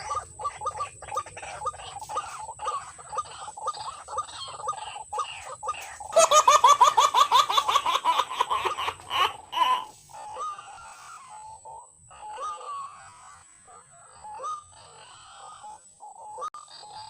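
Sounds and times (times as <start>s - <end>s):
bird chuckling calls: 0.0s - 17.0s.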